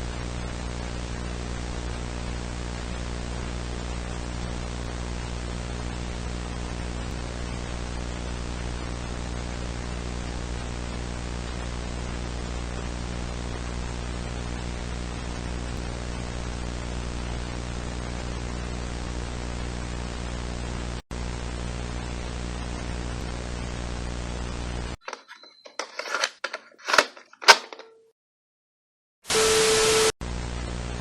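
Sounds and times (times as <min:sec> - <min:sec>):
tape static hiss: 0:00.0 - 0:25.3, 0:29.3 - 0:31.0.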